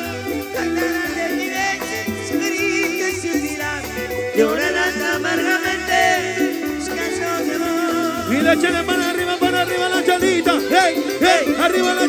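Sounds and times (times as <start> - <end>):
percussion: 0.0 - 12.0
pulsing bass line: 0.0 - 12.0
sliding melodic lead line: 0.0 - 12.0.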